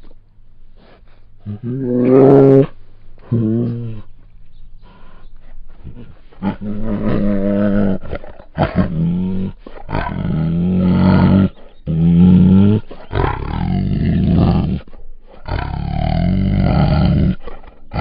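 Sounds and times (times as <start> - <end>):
tiger roaring: 1.5 - 4.1, 5.7 - 18.0.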